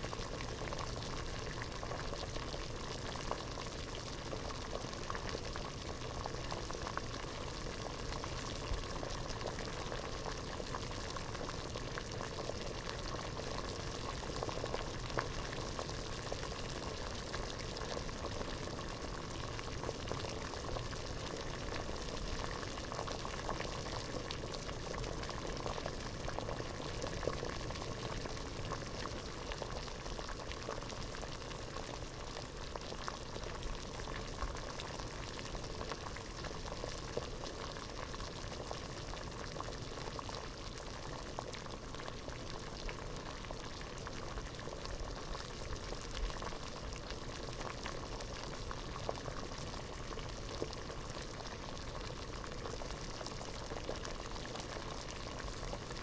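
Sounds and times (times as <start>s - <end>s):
water boiling in a pot: 0.0s - 56.0s.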